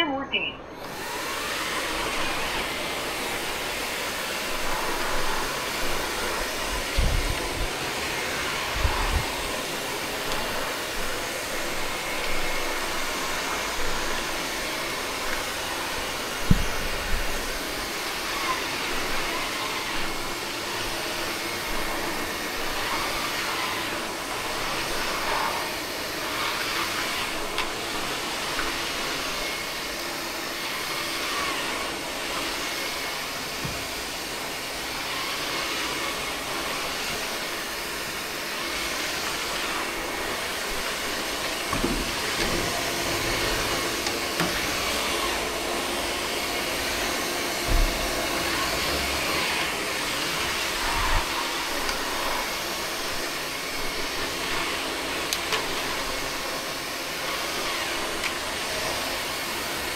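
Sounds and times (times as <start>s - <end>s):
vacuum mop running: 0.7s - 59.9s.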